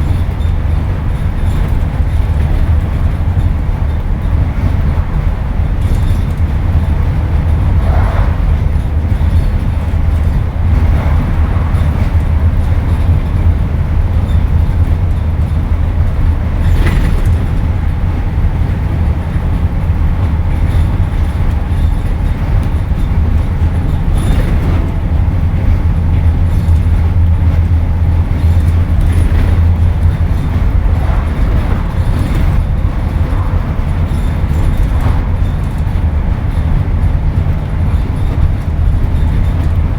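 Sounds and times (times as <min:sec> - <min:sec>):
body rattles: 0:00.0 - 0:39.9
bus diesel engine droning: 0:00.0 - 0:39.9
road rumble: 0:00.0 - 0:39.9.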